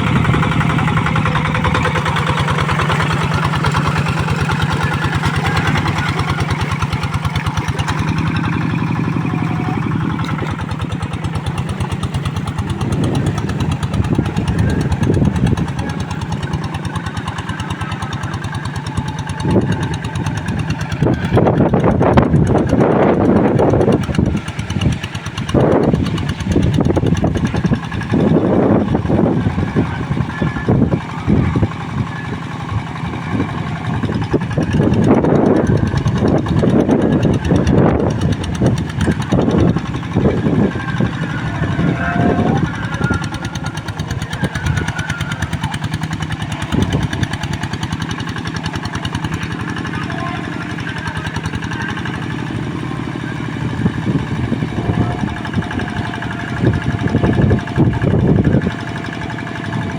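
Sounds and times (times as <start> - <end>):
diesel tractor engine running hard: 0.0 - 59.9.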